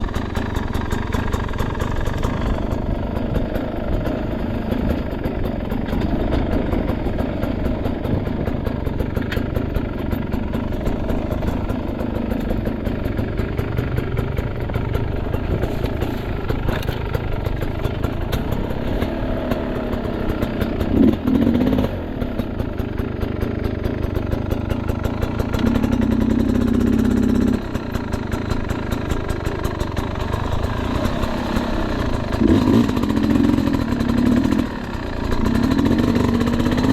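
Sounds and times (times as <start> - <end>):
dirt bike engine chugging: 0.0 - 36.9.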